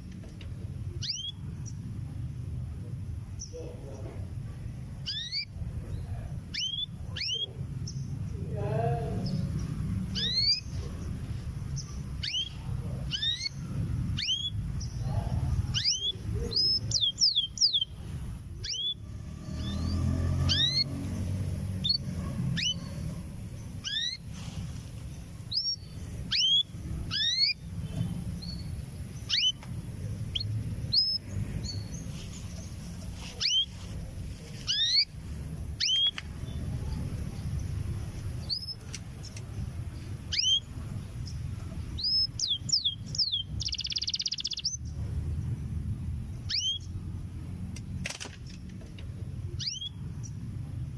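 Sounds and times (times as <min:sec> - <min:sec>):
canary chirping: 0:00.8 - 0:02.6, 0:04.8 - 0:08.4, 0:09.2 - 0:47.0, 0:49.4 - 0:50.6.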